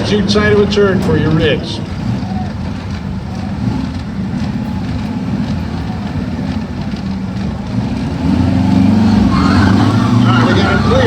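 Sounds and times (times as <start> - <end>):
diesel truck engines idling: 0.0 - 11.0.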